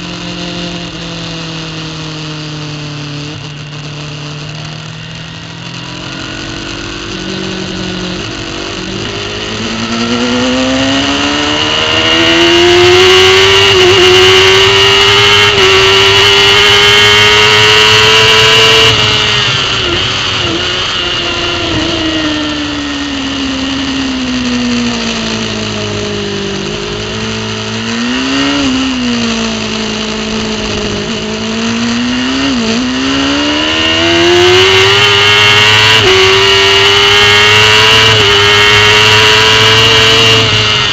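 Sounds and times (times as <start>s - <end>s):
motorcycle engine at full throttle: 0.0s - 40.9s.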